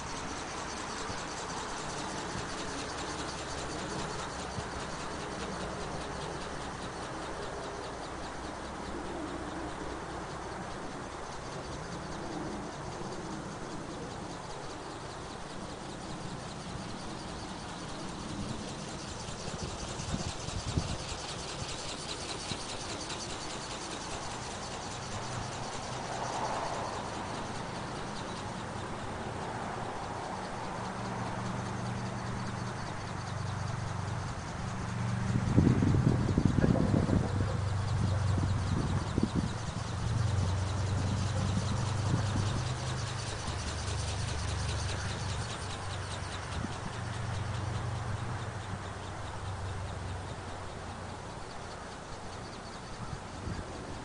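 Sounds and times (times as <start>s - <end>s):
model bird wings fluttering: 0.0s - 54.0s
steady noisy background: 0.0s - 54.0s.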